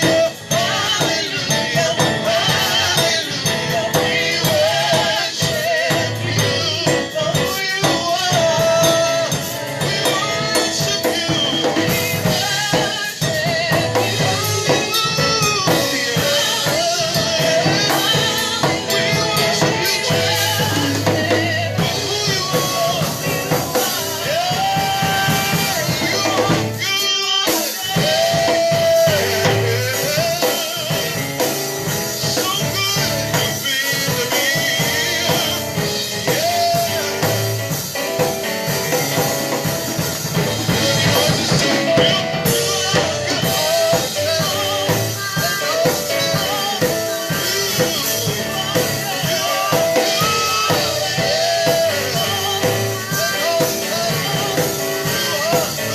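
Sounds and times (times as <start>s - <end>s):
bass: 0.0s - 27.0s, 27.9s - 55.9s
drum kit: 0.0s - 55.9s
person singing: 0.0s - 55.9s.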